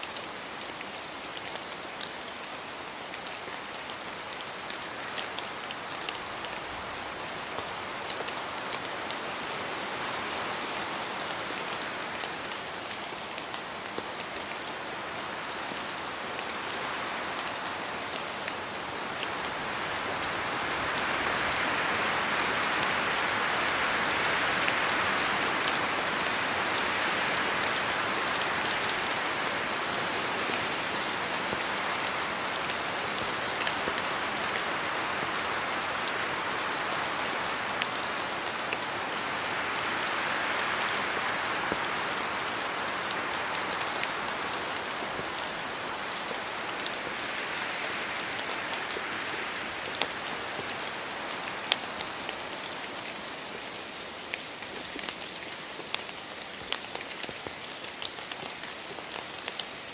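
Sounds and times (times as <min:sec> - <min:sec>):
rain falling in a forest: 0:00.0 - 0:59.9.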